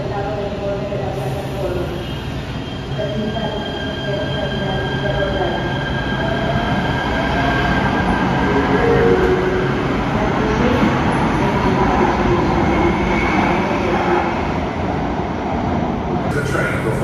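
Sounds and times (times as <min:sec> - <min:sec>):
electric train whine: 0:00.1 - 0:14.4.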